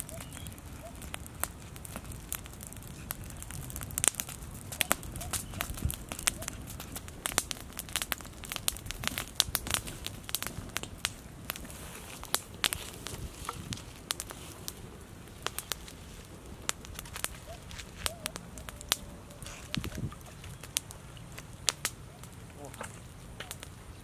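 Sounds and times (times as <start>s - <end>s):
sharp pops of fire: 0.0s - 23.8s
wood fire crackling: 0.0s - 24.0s.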